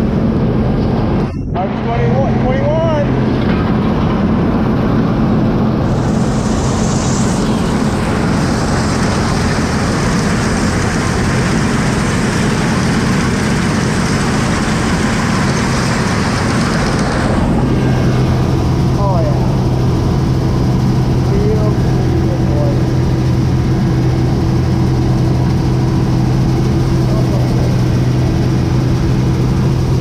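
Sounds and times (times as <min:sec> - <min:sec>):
combine harvester engine hum: 0:00.0 - 0:30.0
loud rushing noise: 0:00.0 - 0:30.0.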